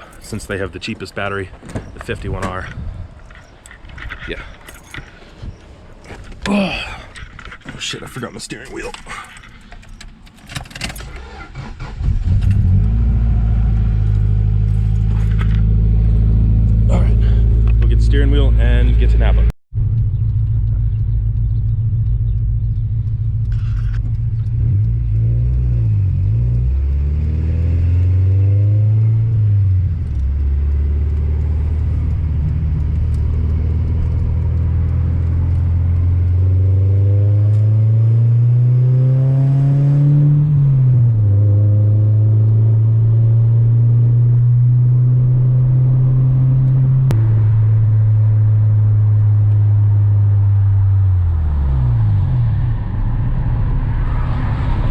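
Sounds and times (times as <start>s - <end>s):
car engine accelerating: 10.6s - 54.9s.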